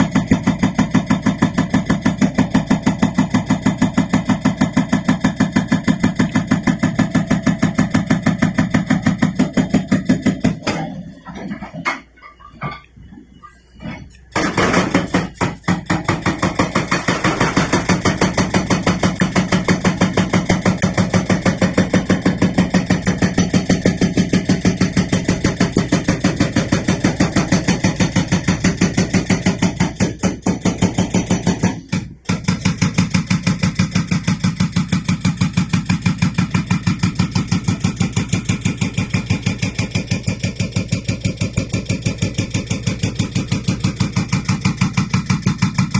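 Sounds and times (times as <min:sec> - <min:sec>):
hydraulic breaker hammering rock: 0:00.0 - 0:12.8, 0:13.9 - 0:45.9.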